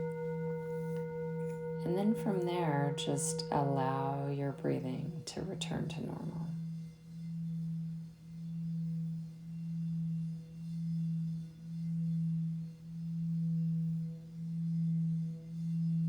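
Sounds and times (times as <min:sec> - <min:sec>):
singing bowl low tone: 0:00.0 - 0:16.0.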